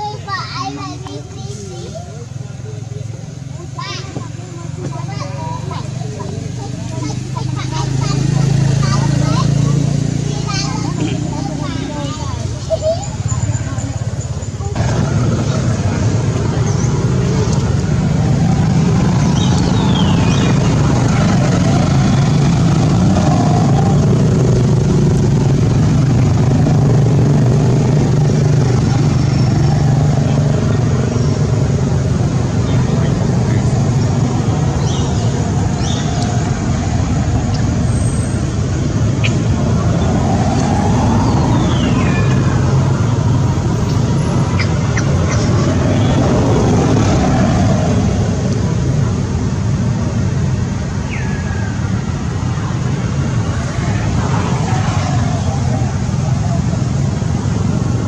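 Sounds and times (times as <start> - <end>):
vehicle engine humming: 0.0 - 58.0.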